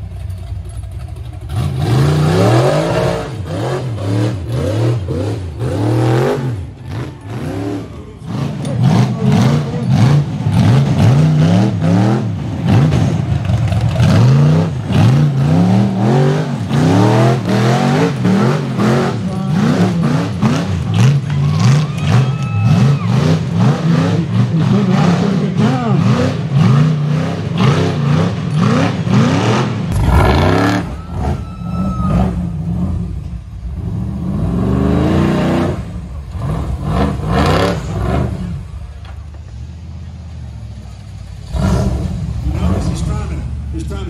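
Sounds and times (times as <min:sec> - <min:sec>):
engine revving hard: 0:01.5 - 0:31.4, 0:33.7 - 0:38.6, 0:41.4 - 0:43.5.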